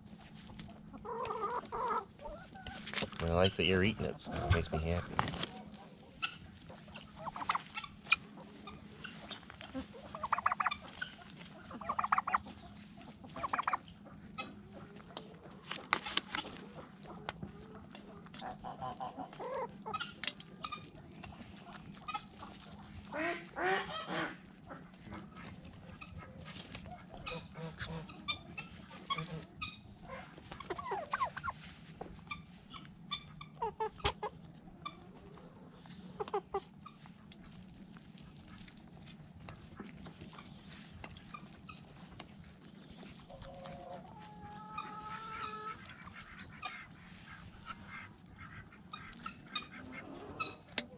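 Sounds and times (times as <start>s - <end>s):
poultry calling: 0.0s - 37.6s, 38.2s - 50.9s
steady low hum: 0.0s - 50.9s.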